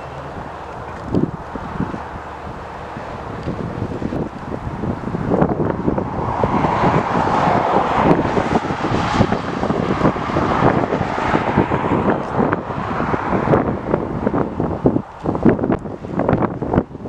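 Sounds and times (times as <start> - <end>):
airliner engine noise: 0.0 - 17.0
wind buffeting microphone: 0.0 - 17.0.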